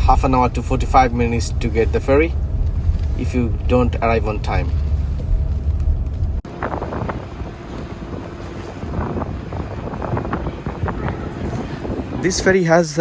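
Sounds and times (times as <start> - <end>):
ferry engine rumble: 0.0 - 13.0
wind on microphone: 0.0 - 13.0.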